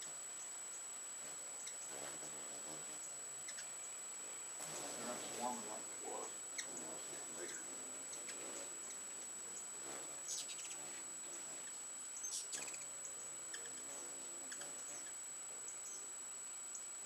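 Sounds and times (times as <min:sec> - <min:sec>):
hummingbirds chattering: 0:00.0 - 0:17.0.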